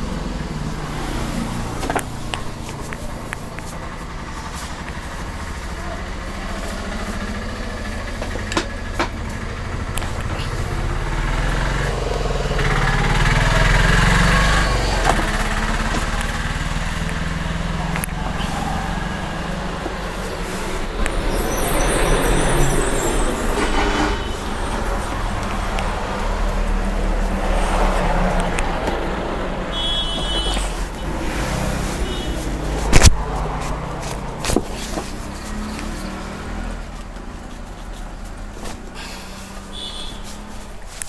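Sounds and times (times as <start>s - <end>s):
road traffic: 0.0s - 41.0s
vehicles passing: 0.0s - 41.0s.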